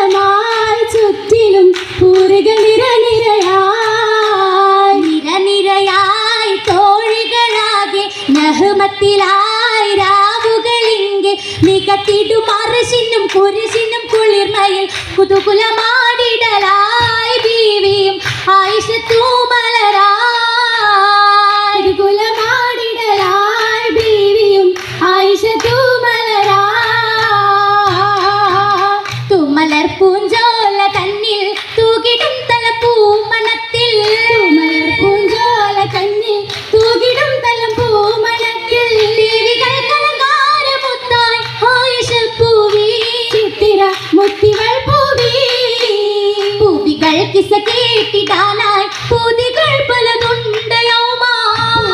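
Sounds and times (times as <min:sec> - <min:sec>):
girls singing together: 0:00.0 - 0:51.9
sharp hand claps: 0:00.0 - 0:51.9.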